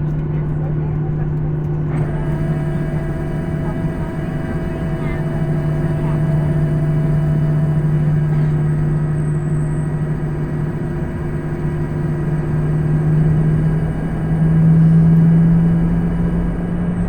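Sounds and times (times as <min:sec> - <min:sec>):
aircraft cabin engine drone: 0:00.0 - 0:17.0
thin high engine whine: 0:00.0 - 0:17.0.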